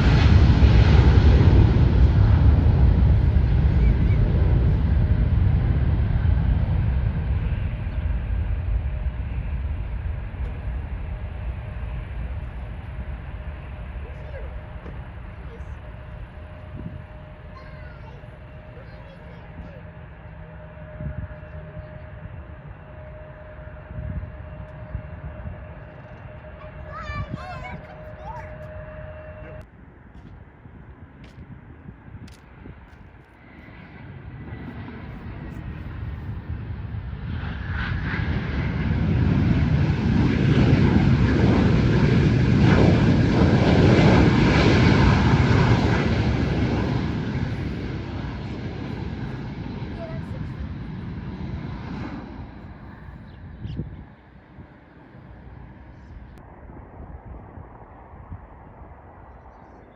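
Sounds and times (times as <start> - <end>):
airliner passing: 0.0 - 59.9
gusty low rumbles: 0.0 - 59.9
jet engine whine and rumble: 0.0 - 59.9.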